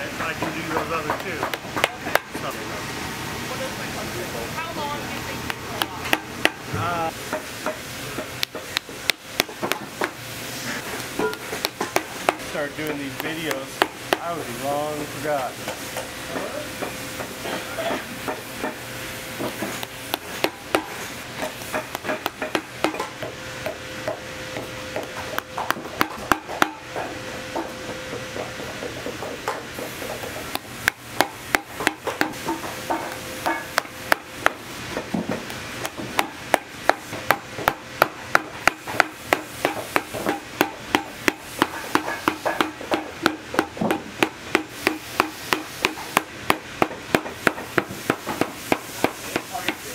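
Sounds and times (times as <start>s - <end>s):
steady hum: 0.0s - 49.9s.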